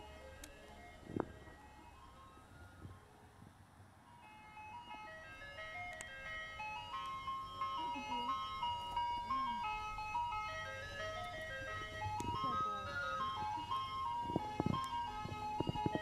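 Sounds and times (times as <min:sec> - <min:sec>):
ice cream truck jingle: 0:00.0 - 0:16.0.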